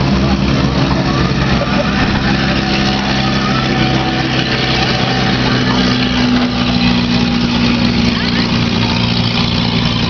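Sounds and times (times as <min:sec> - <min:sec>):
race car engines running: 0:00.0 - 0:10.0.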